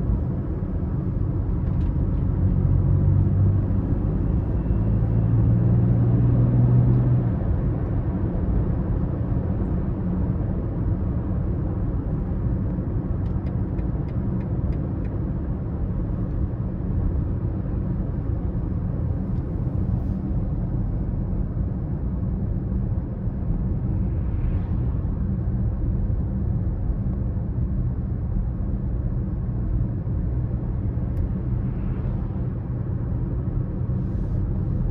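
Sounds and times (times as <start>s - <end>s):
car engine and tyre noise cruising: 0.0s - 34.9s.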